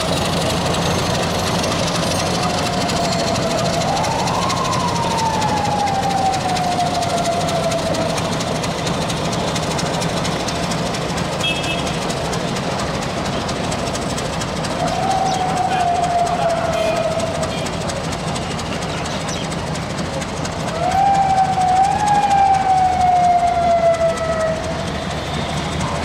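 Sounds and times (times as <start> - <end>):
rising and sinking whine: 0.0 - 10.7, 14.0 - 18.9, 20.5 - 26.0
diesel train engine running: 0.0 - 26.0.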